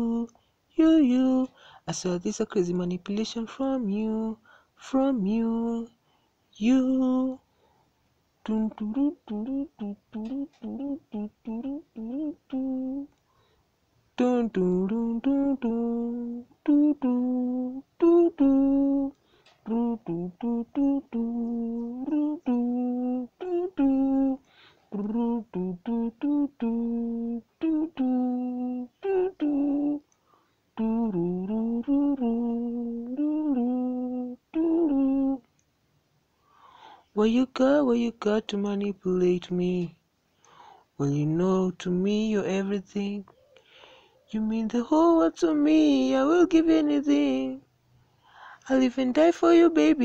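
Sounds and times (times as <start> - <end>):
person humming a wordless melody: 0.0 - 7.4, 8.4 - 13.2, 14.2 - 35.5, 37.1 - 40.0, 41.0 - 47.7, 48.6 - 50.0.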